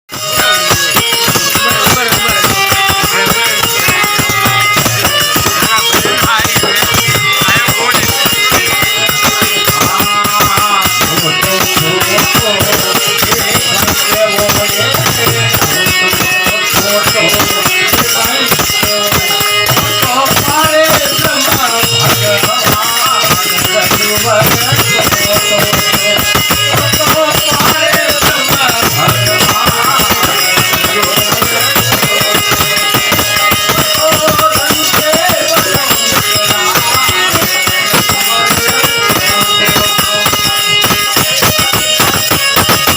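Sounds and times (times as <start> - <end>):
fast jingling percussion: 0.1 - 42.9
wavering melody: 0.1 - 42.9.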